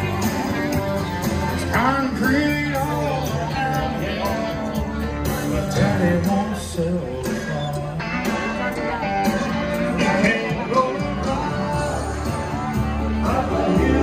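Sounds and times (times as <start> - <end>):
country-rock song with singing: 0.0 - 14.0.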